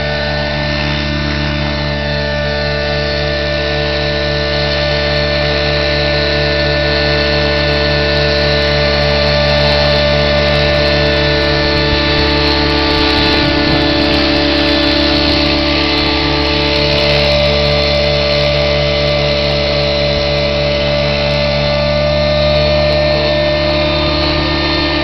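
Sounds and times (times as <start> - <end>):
model helicopter engine and rotor: 0.0 - 25.0.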